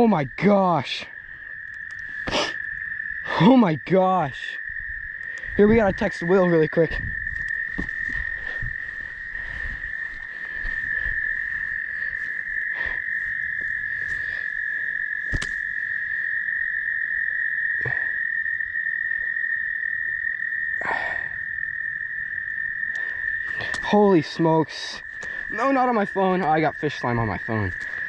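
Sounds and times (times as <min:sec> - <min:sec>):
frogs trilling: 0:00.0 - 0:28.0.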